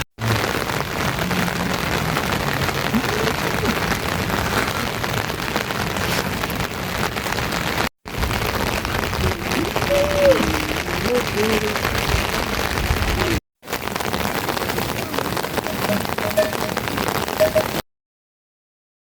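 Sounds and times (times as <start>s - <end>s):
steady rain falling: 0.0s - 17.8s.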